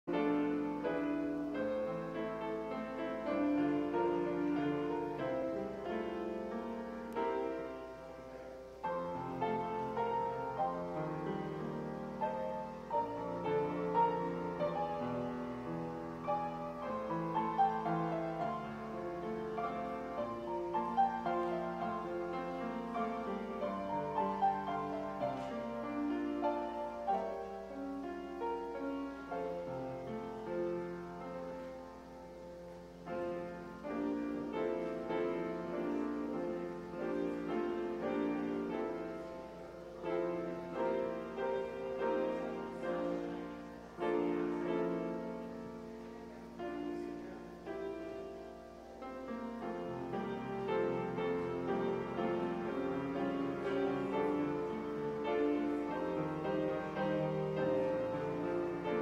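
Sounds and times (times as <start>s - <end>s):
gentle piano melody: 0.0s - 59.0s.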